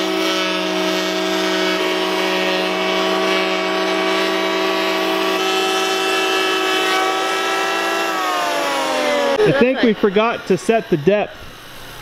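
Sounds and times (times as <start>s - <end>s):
electric planer whining: 0.0s - 10.3s.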